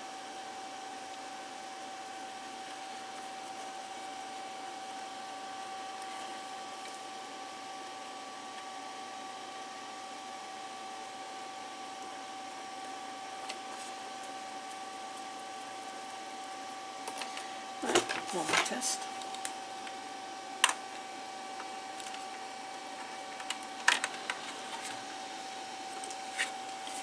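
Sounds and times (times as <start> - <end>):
electric fan whirring: 0.0 - 27.0.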